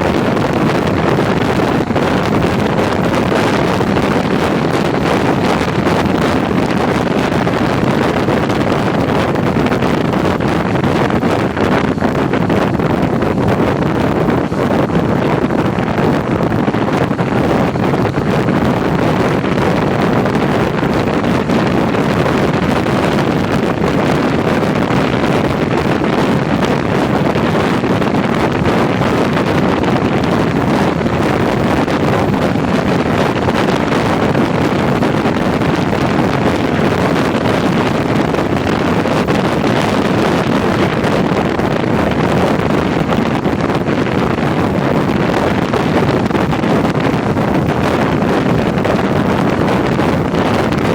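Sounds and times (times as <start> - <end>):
motorcycle engine and road noise: 0.0 - 50.9
wind rush on microphone: 0.0 - 50.9.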